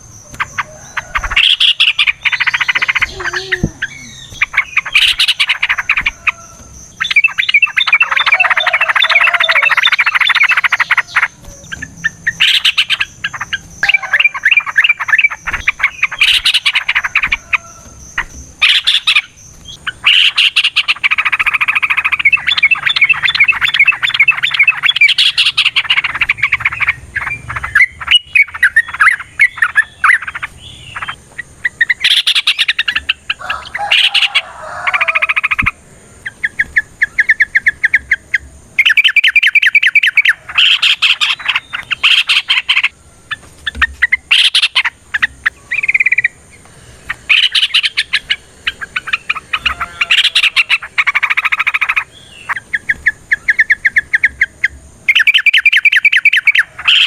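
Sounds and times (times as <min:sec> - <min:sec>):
bulbul song with rolling trills: 0:00.0 - 0:57.0.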